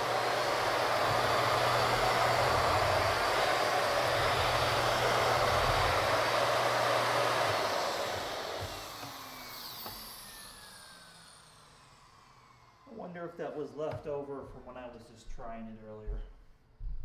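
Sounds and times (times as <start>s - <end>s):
vacuum cleaner motor whine: 0.0s - 14.9s.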